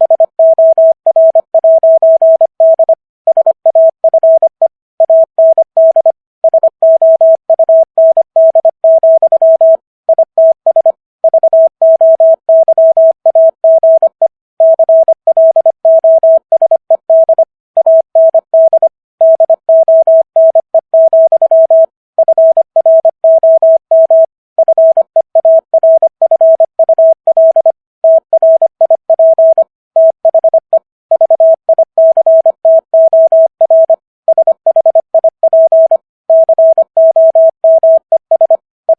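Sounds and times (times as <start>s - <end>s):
morse code beeps: 0.0s - 38.9s.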